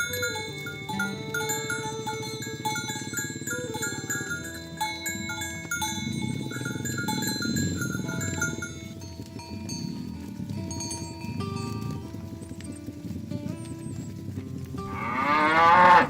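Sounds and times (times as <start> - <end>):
light tinkling background music: 0.0 - 15.2.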